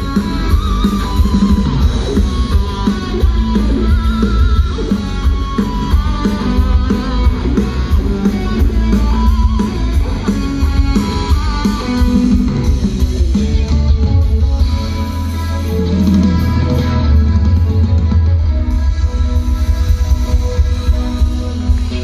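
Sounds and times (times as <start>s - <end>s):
bass guitar: 0.0s - 22.0s
drums: 0.0s - 22.0s
electric guitar melody: 0.0s - 22.0s
keyboards: 0.0s - 22.0s.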